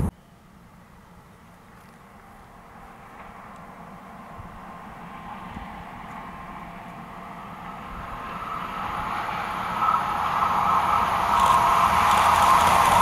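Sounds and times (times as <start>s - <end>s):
diesel train approaching: 0.0s - 13.0s.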